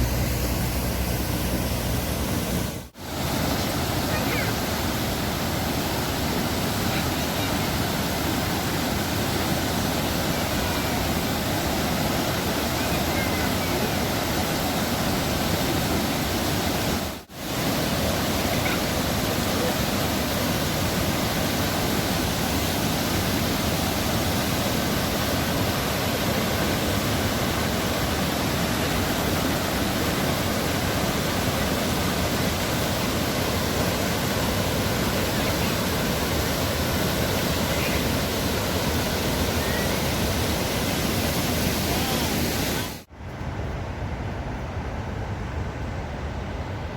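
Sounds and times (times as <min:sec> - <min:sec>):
waterfall rushing: 0:00.0 - 0:43.1.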